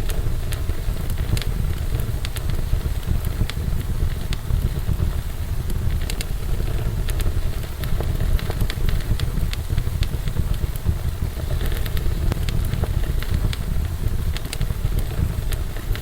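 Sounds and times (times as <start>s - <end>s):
fire crackling and popping: 0.0s - 16.0s
wood fire roaring: 0.0s - 16.0s.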